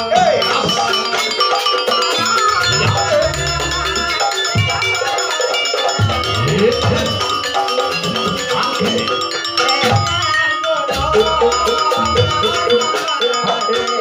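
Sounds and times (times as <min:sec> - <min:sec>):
metallophones ringing a melody: 0:00.0 - 0:14.0.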